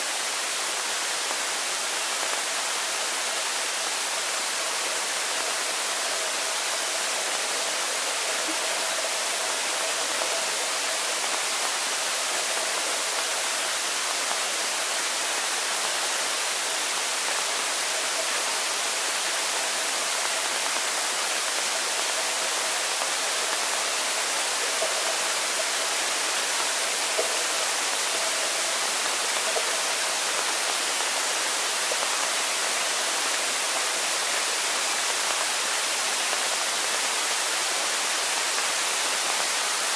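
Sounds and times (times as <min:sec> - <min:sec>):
underwater pool hiss: 0:00.0 - 0:39.9.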